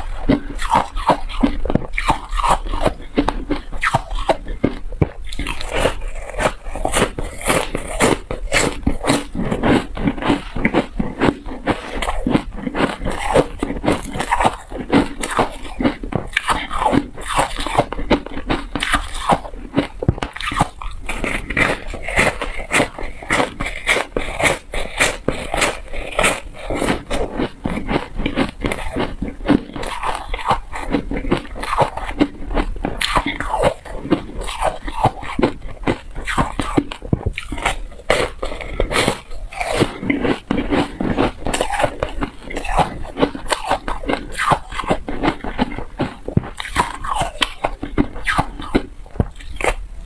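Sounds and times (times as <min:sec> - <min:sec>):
crunching ice close up: 0:00.0 - 0:49.8.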